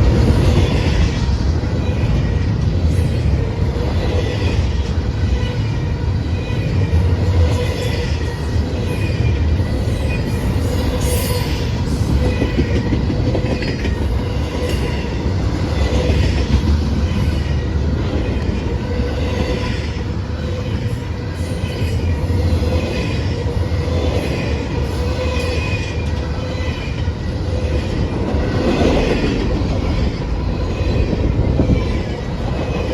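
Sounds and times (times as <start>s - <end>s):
train cars rumbling on rails: 0.0s - 32.9s.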